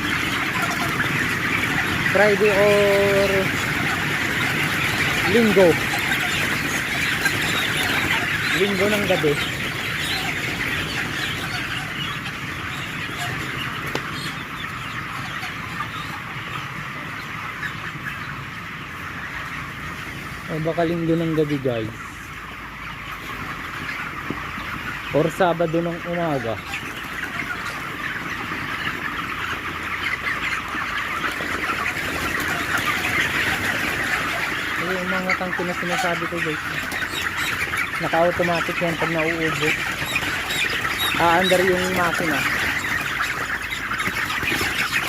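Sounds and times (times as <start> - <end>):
chickens clucking and peeping: 0.0 - 45.0.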